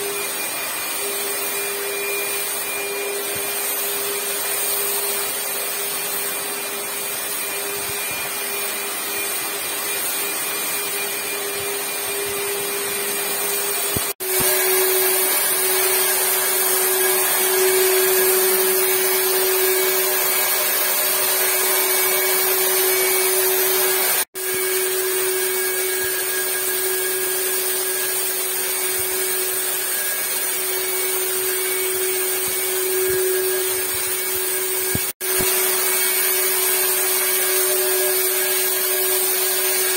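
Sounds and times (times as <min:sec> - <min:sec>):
electric fogger motor humming: 0:00.0 - 0:39.9.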